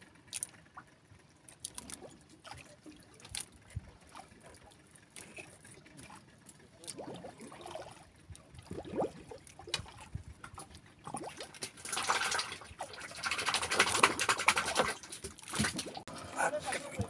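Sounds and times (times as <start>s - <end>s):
water lapping against boat: 0.0s - 17.0s
water splashing and trickling: 0.0s - 17.0s
water plops: 1.5s - 6.2s, 6.8s - 16.1s.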